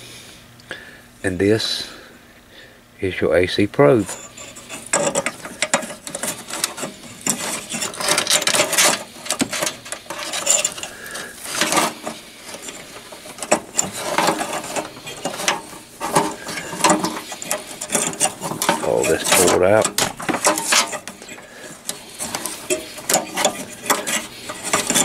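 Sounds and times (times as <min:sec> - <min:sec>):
cables scraping and rattling on metal: 0:03.8 - 0:25.0.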